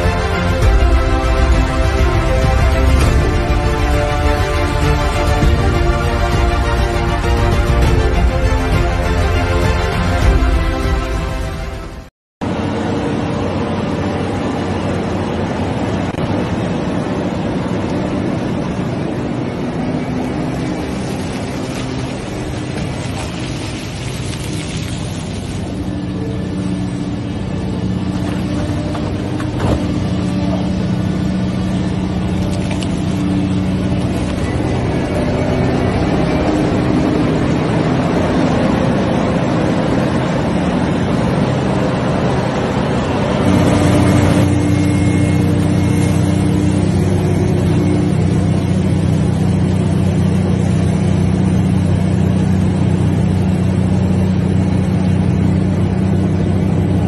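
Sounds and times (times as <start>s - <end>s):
excavator diesel engine running: 0.0s - 11.7s, 12.4s - 57.0s.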